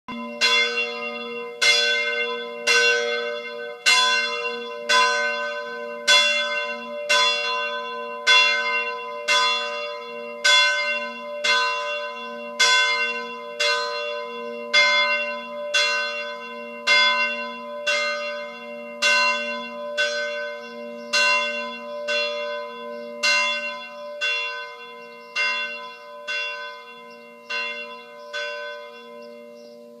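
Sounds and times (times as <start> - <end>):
church bell tolling: 0.1 - 30.0.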